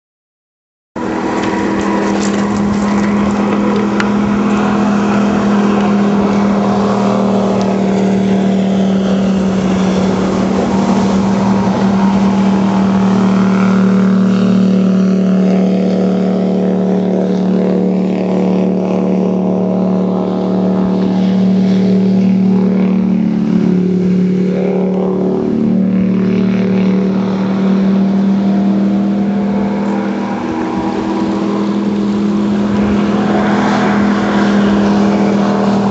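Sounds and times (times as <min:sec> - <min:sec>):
jet boat engine high revs: 0:01.0 - 0:35.9.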